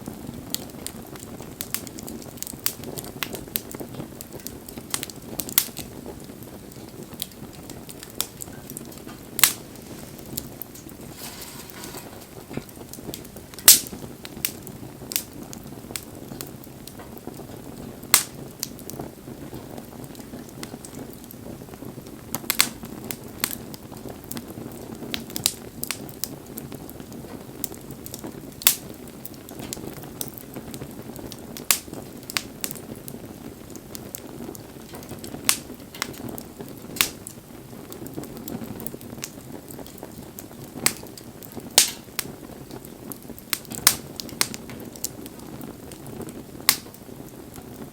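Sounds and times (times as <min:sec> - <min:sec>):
low rush of flame: 0:00.0 - 0:47.9
wood fire crackles and pops: 0:00.0 - 0:47.9.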